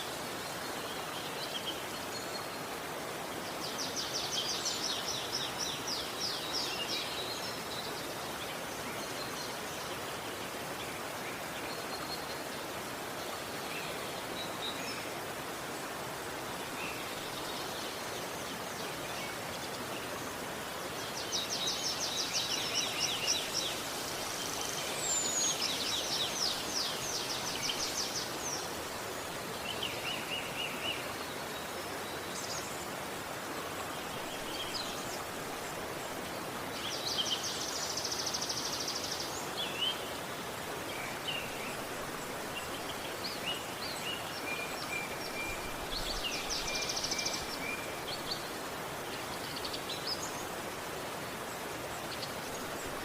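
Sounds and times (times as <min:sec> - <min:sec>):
river rushing water: 0:00.0 - 0:53.0.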